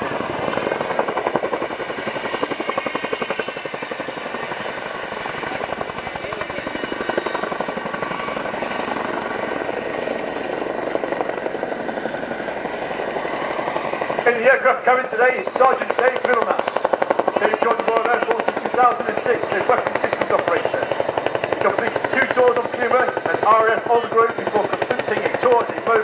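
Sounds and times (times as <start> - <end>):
helicopter rotor blades chopping: 0.0 - 26.0.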